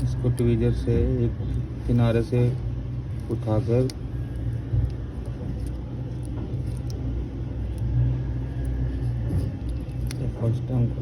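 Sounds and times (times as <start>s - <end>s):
low background rumble and hum: 0.0s - 11.0s.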